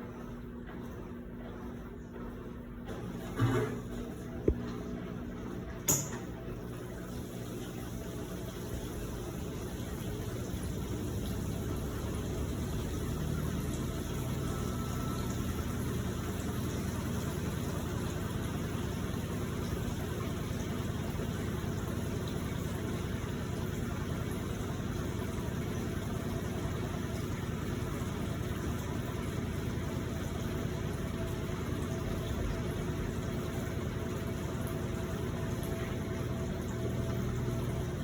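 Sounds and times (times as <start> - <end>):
washing machine motor hum: 0.0 - 38.0.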